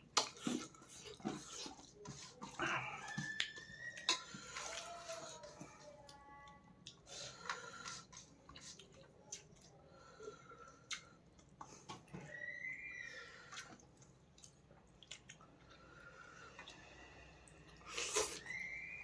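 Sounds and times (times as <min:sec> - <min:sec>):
person chewing wetly: 0:00.0 - 0:12.2, 0:13.3 - 0:18.6.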